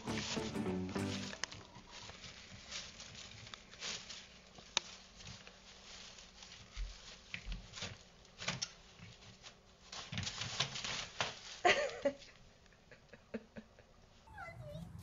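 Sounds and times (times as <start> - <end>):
plastic bag rustling: 0.0 - 12.2.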